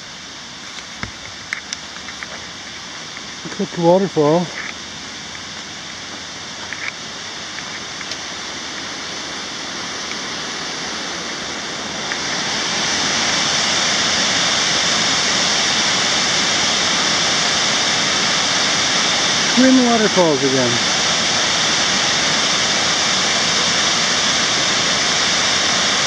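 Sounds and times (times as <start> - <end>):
waterfall rushing: 0.1 - 26.0.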